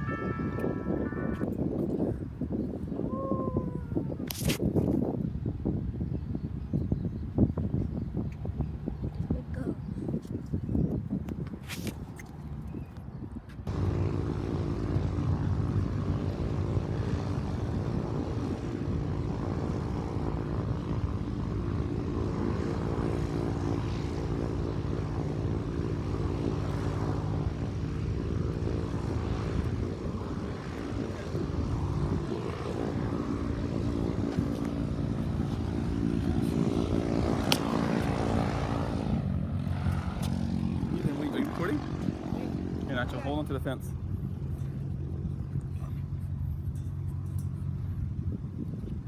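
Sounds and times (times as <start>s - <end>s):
propeller plane engine running: 0.0s - 49.0s.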